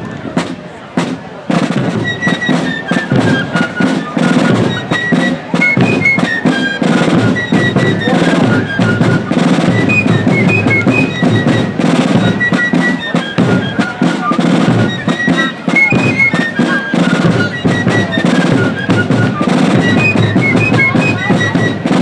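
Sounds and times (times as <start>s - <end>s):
fife melody: 0.0s - 22.0s
snare and bass drum beats: 0.0s - 22.0s.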